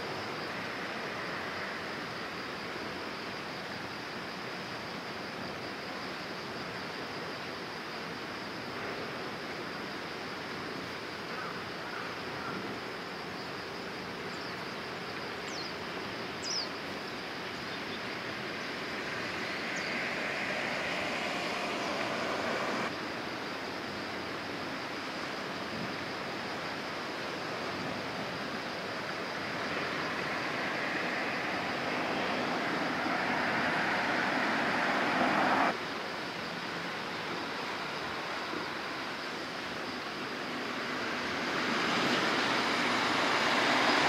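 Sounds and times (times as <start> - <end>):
rushing water hiss: 0.0 - 44.0.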